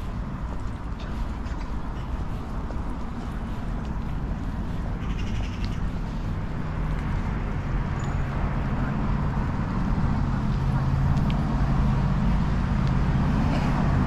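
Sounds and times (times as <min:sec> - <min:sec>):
engine hum: 0:00.0 - 0:14.0
traffic rumble: 0:00.0 - 0:14.0.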